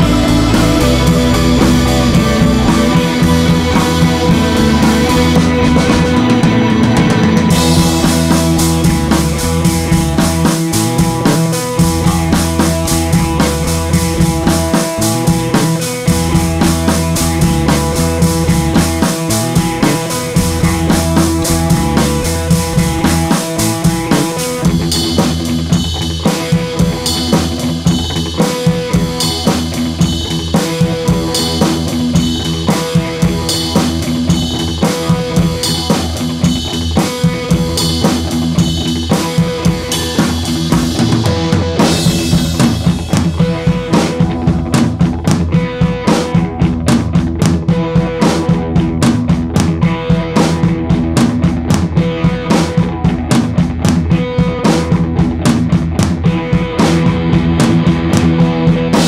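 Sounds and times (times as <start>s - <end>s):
background music with drum beat: 0.0s - 59.0s.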